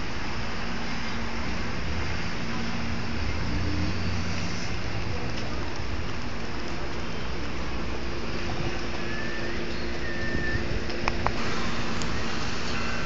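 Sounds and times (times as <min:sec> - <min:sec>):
low traffic hum: 0:00.0 - 0:13.0.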